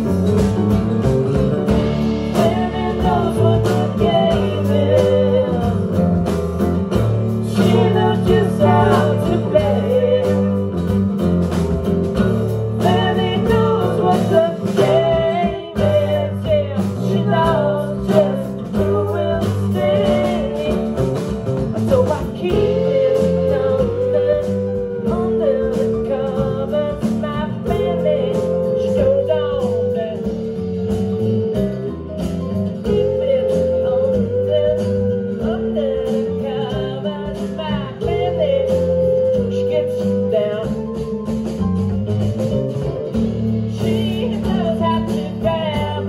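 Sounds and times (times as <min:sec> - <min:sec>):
drum kit: 0:00.0 - 0:46.0.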